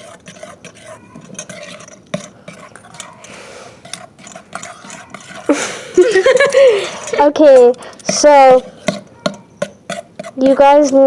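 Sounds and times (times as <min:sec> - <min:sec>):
utensil stirring slime in bowl: 0:00.0 - 0:11.0.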